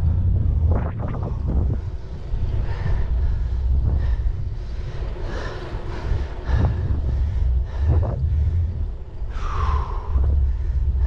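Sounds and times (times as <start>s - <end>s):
bicycle rumble: 0.0s - 11.0s
wind buffeting microphone: 0.0s - 11.0s.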